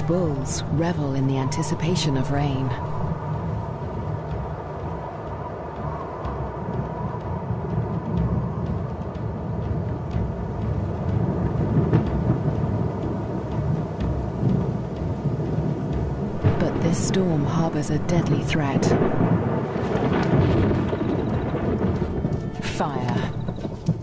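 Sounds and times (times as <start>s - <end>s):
storm wind blowing: 0.0s - 24.0s
thunder rumbling: 0.0s - 24.0s.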